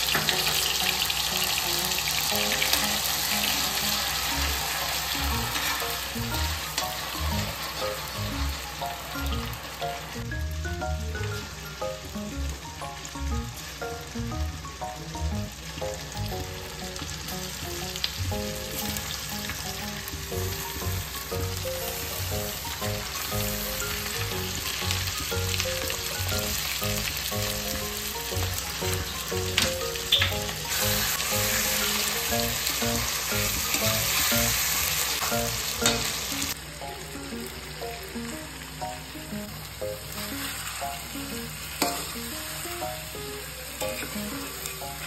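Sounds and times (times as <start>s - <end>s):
chicken sizzling in hot oil: 0.0s - 45.0s
soft background music: 0.0s - 45.0s.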